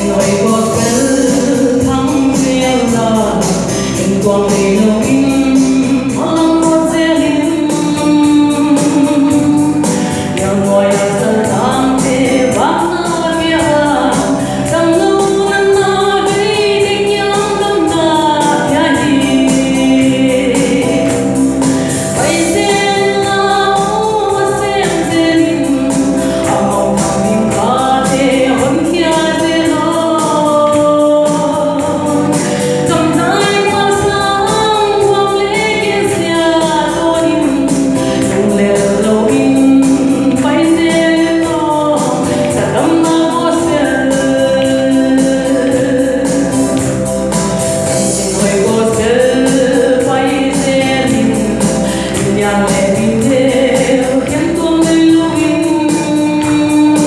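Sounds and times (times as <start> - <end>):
music with steady beat: 0.0 - 57.0
woman singing into microphone: 0.0 - 57.0.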